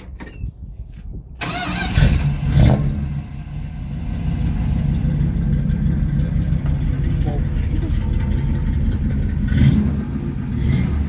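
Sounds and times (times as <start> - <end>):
pickup engine starting and revving: 1.4 - 11.0.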